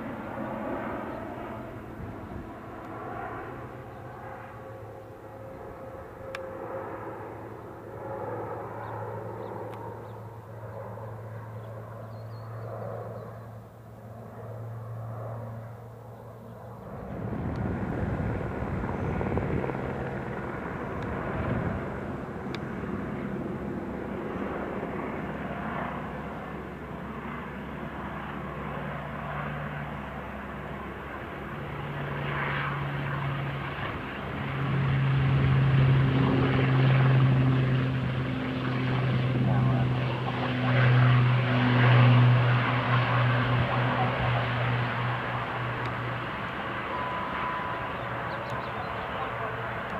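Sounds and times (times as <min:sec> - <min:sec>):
turboprop aircraft engines: 0:00.0 - 0:49.9.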